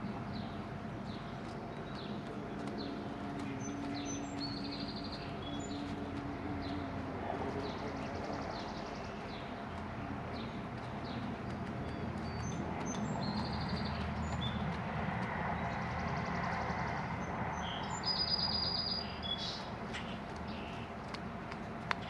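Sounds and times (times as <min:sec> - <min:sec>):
outdoor background noise: 0:00.0 - 0:22.0
small birds chirping: 0:00.0 - 0:22.0.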